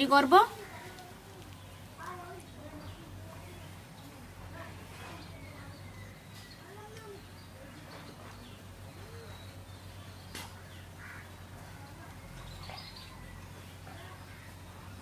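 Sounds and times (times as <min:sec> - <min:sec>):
bird calls and chirps: 0:00.5 - 0:15.0.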